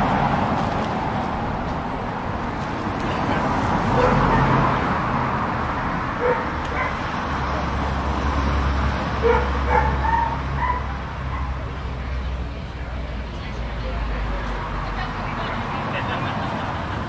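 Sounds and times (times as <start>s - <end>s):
low vehicle engine rumble: 0.0s - 17.0s
road traffic: 0.0s - 17.0s.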